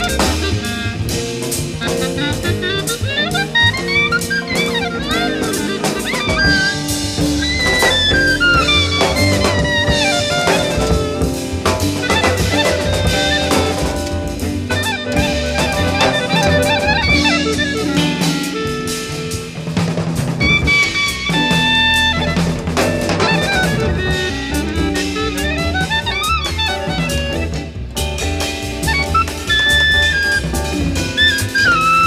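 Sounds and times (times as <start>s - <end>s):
jazz group playing: 0.0s - 32.0s.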